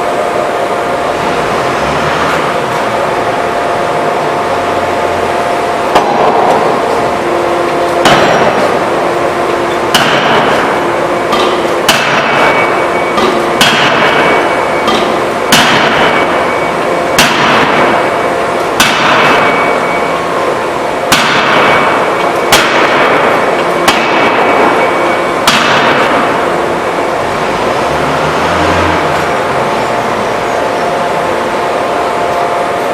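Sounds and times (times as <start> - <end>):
forging hammer blows: 0.0 - 32.9
steady hum: 0.0 - 32.9.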